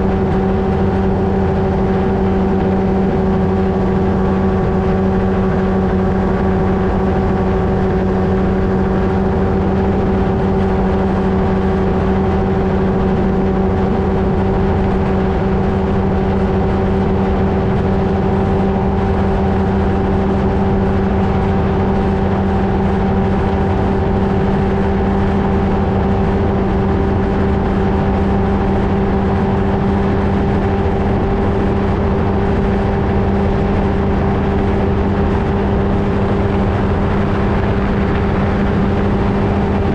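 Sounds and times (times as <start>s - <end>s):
ultralight engine and propeller drone: 0.0s - 39.9s.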